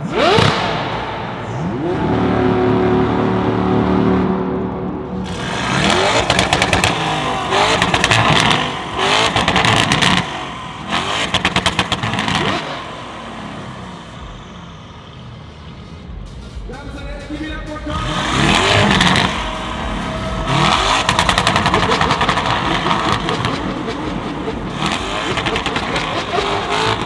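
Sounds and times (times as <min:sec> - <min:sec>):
exhaust crackle: 0:00.0 - 0:16.4, 0:17.9 - 0:27.0
sports car engine revving: 0:00.0 - 0:16.6, 0:17.8 - 0:27.0.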